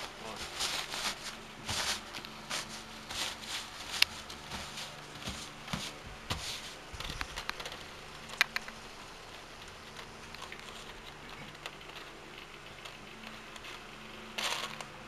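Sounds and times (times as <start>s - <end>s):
paper rustling and crinkling: 0.0s - 8.4s, 9.0s - 15.0s.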